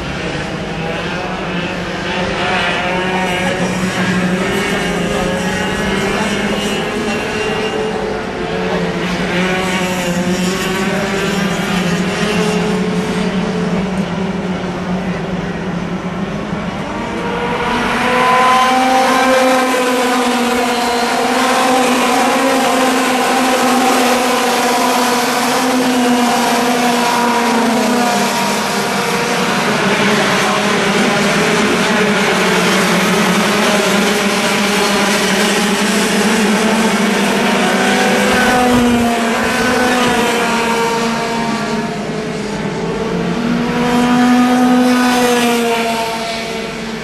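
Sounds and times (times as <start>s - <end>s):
racing kart engines: 0.0s - 47.0s.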